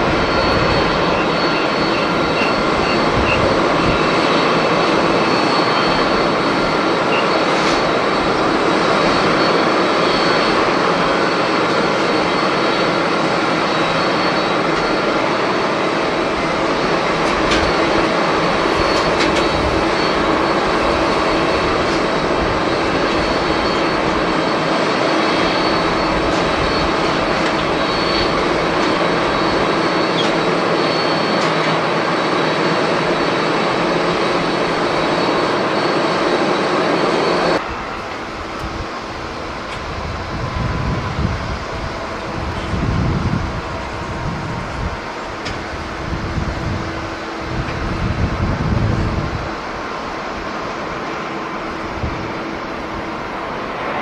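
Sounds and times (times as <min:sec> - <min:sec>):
jet engines running: 0:00.0 - 0:54.0.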